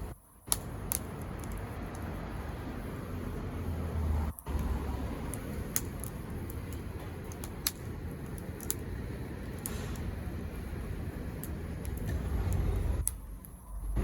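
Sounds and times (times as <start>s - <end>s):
fire crackling pops: 0.0s - 14.0s
wood fire rumbling and hissing: 0.0s - 14.0s.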